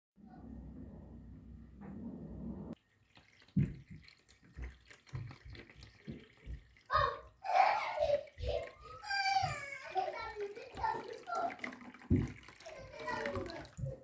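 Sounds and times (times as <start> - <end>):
water dripping and splashing: 2.8 - 14.0.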